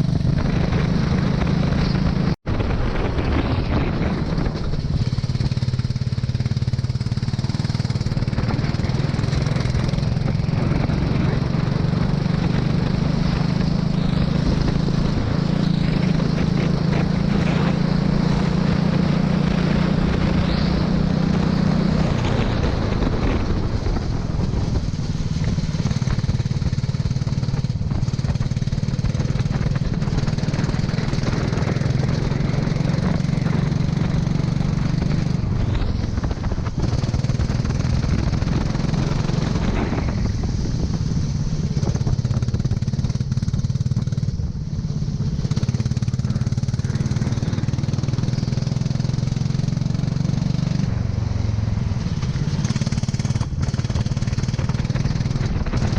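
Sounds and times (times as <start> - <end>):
go-kart engine running: 0.0 - 55.9.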